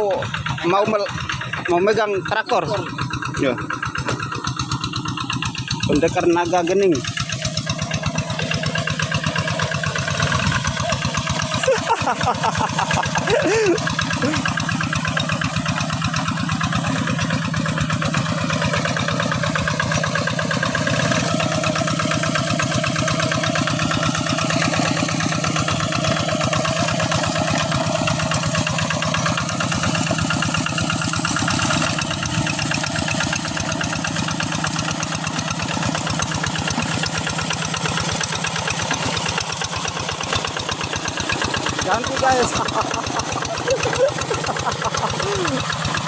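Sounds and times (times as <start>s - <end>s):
tractor engine pulsing: 0.0s - 46.0s.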